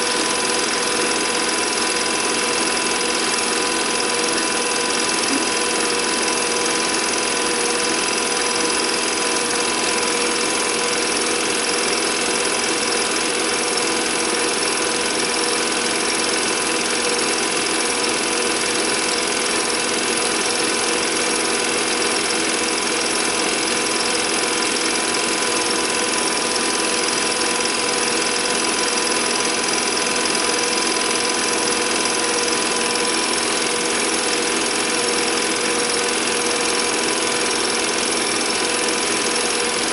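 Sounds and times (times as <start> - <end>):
film projector whirring and rattling: 0.0 - 39.9.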